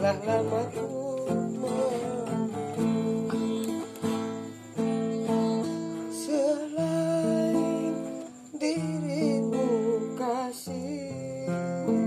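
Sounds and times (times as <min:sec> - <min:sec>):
person singing: 0:00.0 - 0:04.6, 0:05.4 - 0:12.0
acoustic guitar chords: 0:00.0 - 0:12.0.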